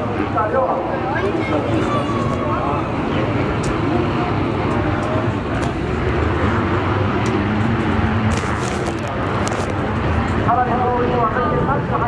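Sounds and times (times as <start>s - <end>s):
motocross bike engines rumbling: 0.0s - 12.0s.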